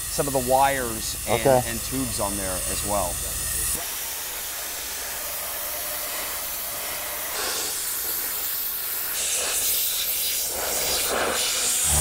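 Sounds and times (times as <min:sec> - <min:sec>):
air blaster hissing: 0:00.0 - 0:12.0.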